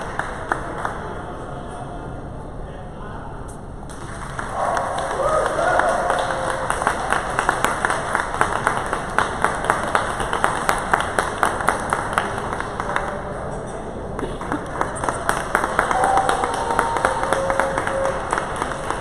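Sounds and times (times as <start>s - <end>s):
spectators clapping in rhythm: 0.0s - 1.4s, 3.8s - 19.0s.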